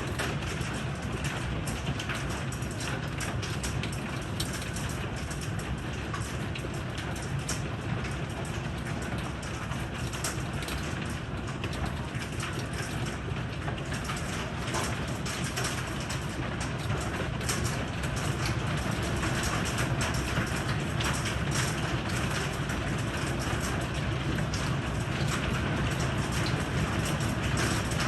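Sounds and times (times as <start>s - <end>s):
heavy rain pouring: 0.0s - 28.0s
low continuous rumble: 0.0s - 28.0s.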